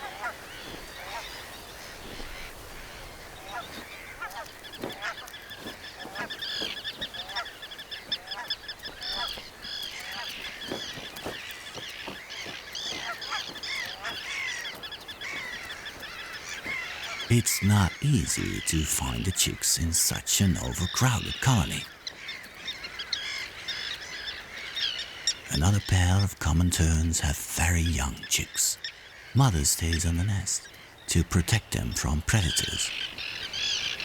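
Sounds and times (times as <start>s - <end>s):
terns and gulls calling: 0.0s - 34.0s.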